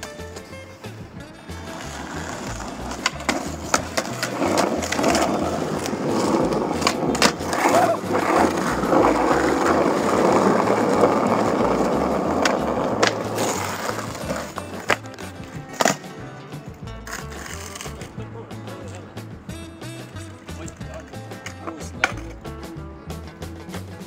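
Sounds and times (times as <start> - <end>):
background music with bassline: 0.0 - 24.0
skateboard clacks: 0.0 - 24.0
skateboard wheels rolling on asphalt: 0.0 - 24.0.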